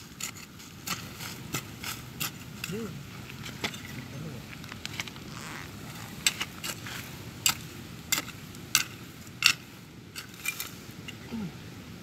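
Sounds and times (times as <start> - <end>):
hand scraping stony soil: 0.0 - 11.2
low steady background noise: 0.0 - 12.0.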